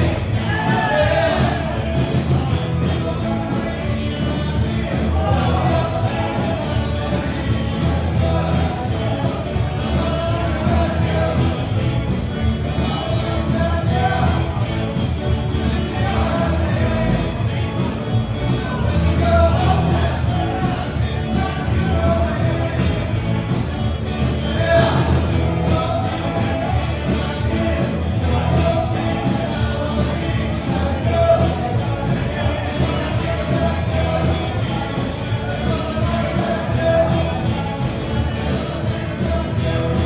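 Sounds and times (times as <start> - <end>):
live rock band playing: 0.0 - 40.0
person singing: 0.0 - 40.0
steady drum beat: 0.0 - 40.0.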